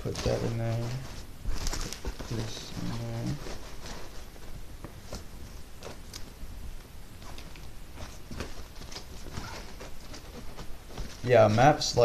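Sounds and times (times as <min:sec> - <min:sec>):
bag rustling: 0:00.0 - 0:06.1, 0:07.2 - 0:12.0.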